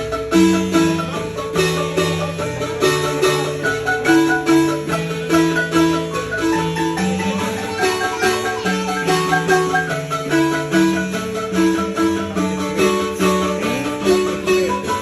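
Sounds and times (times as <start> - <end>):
marimba melody: 0.0 - 15.0.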